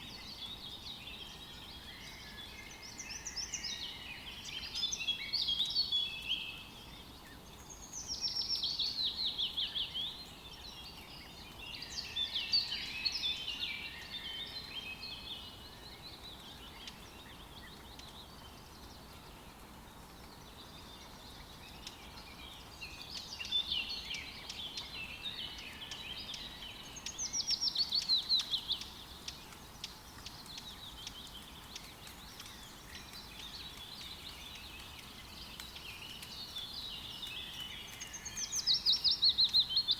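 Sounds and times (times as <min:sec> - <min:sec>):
light rain hiss: 0:00.0 - 0:39.9
songbirds singing: 0:00.0 - 0:39.9.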